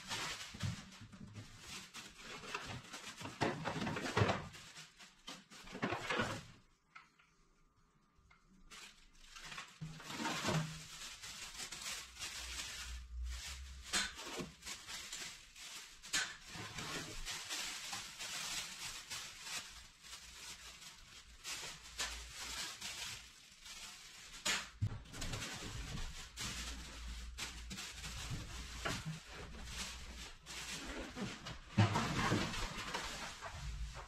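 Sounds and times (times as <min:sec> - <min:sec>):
plastic and cardboard rustling: 0:00.0 - 0:06.8, 0:08.5 - 0:34.0.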